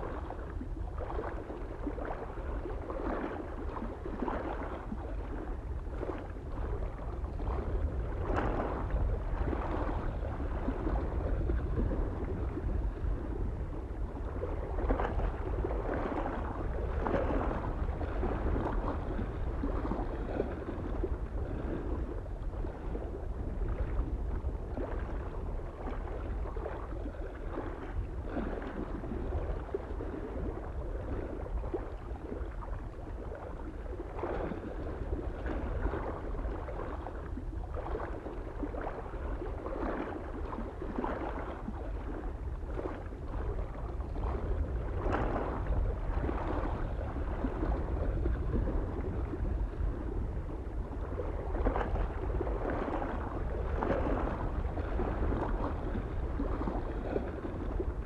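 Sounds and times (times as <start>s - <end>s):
low wind rumble: 0.0s - 58.0s
small waves lapping on shore: 0.0s - 58.0s.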